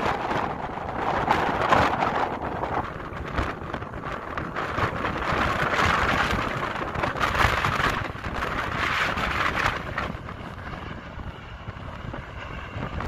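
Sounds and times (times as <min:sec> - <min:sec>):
jet engine roar overhead: 0:00.0 - 0:13.0
wind buffeting microphone: 0:00.0 - 0:13.0.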